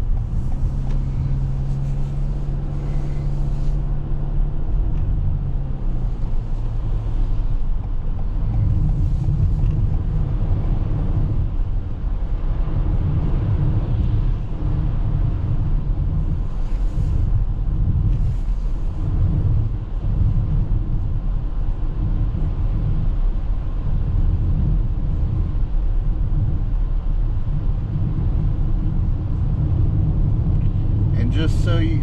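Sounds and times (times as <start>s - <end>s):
road and tyre rumble: 0.0s - 32.0s.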